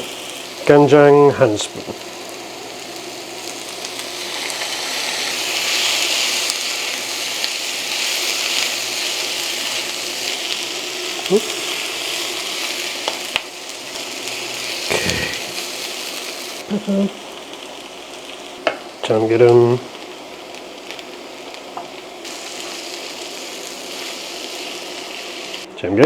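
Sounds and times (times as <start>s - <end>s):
mushrooms sizzling in pan: 0.0s - 25.7s.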